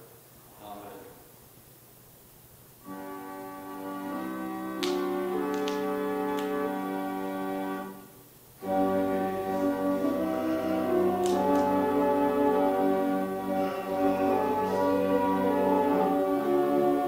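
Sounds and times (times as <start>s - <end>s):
organ playing held chords: 2.8s - 17.0s.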